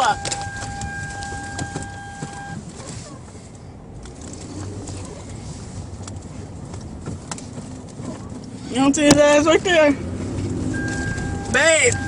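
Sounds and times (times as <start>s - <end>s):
car interior road noise: 0.0s - 12.0s.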